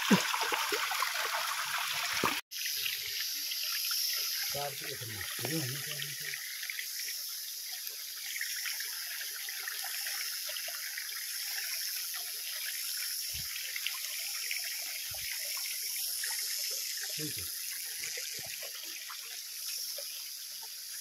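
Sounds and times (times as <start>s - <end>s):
stream trickling over rocks: 0.0s - 21.0s.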